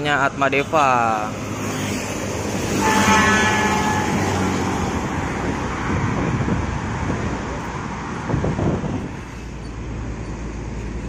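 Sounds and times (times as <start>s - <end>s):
motorcycles passing: 0.0s - 9.4s
bus driving away: 0.0s - 11.0s
cars passing: 0.0s - 11.0s.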